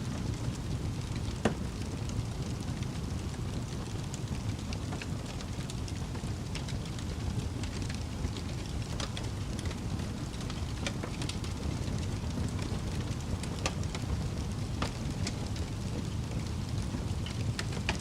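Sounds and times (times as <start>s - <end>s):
campfire crackling and popping: 0.1s - 18.0s.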